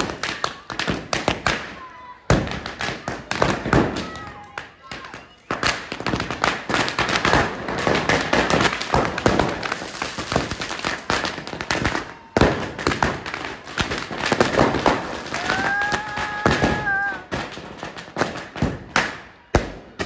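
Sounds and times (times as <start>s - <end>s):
firecrackers banging and crackling: 0.0s - 20.0s.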